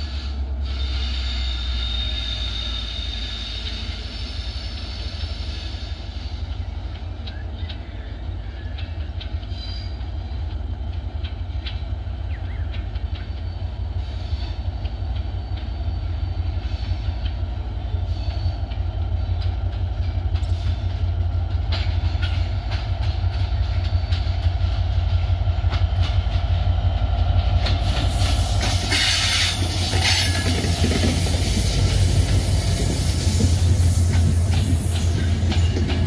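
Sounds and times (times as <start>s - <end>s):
diesel locomotive rumble: 0.0s - 36.0s
train wheels clattering on rails: 3.1s - 36.0s.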